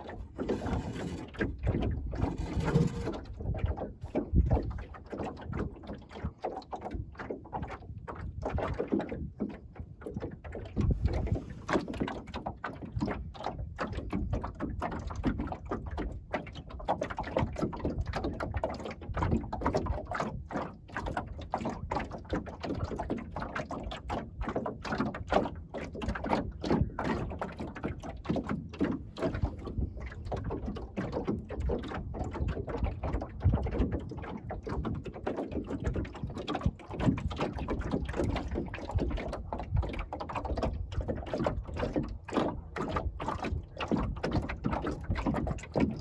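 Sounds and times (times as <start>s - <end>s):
water lapping against boat hull: 0.0s - 46.0s
wind rumble on microphone: 0.0s - 46.0s.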